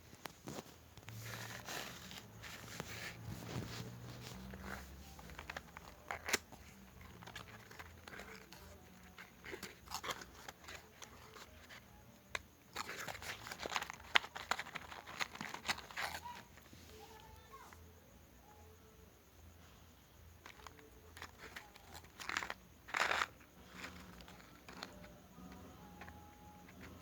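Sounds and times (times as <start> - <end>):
crinkling and rustling: 0.0 - 17.9, 20.2 - 27.0.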